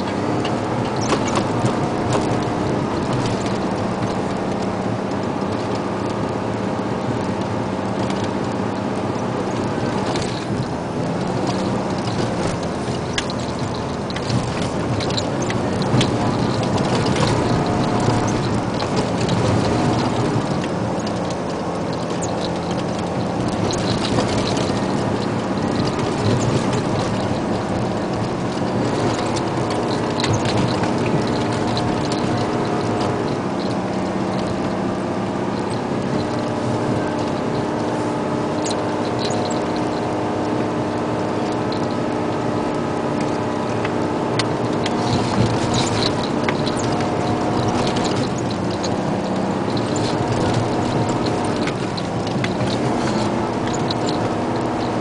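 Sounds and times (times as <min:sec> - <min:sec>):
cab rattles and clicks: 0:00.0 - 0:55.0
diesel engine running: 0:00.0 - 0:55.0.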